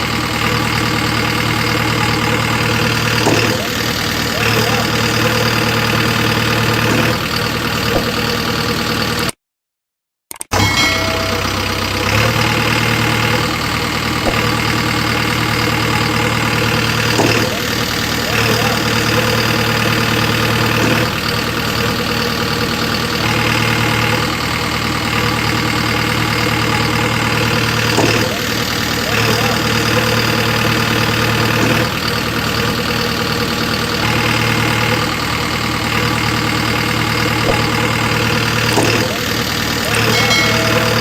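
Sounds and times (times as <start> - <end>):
engine idling: 0.0 - 9.3, 10.5 - 41.0.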